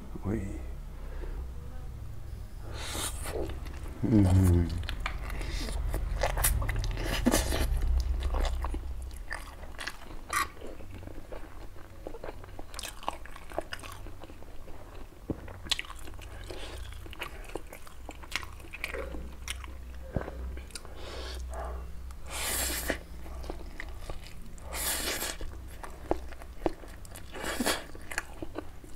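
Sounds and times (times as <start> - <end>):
wet chewing with smacks: 4.6 - 28.9.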